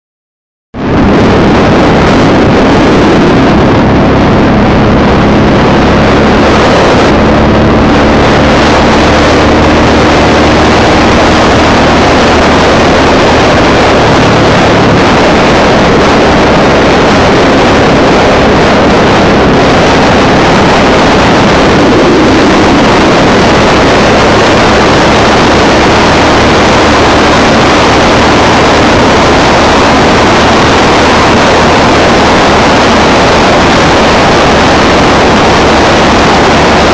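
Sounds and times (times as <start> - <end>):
motorcycle engine hum: 0.7 - 36.9
wind rushing: 0.8 - 36.9.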